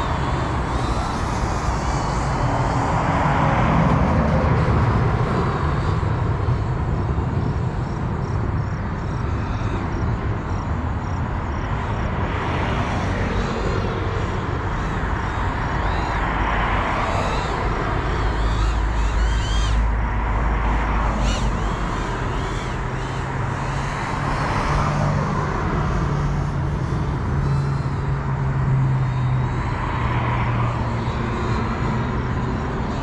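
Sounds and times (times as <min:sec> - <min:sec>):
distant quadcopter motors whining: 0:00.0 - 0:33.0
rushing outdoor noise: 0:00.0 - 0:33.0.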